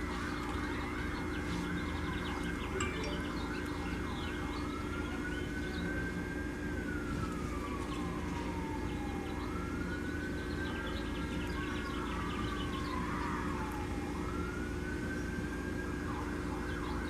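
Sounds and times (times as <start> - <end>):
emergency vehicle siren: 0.0 - 17.0.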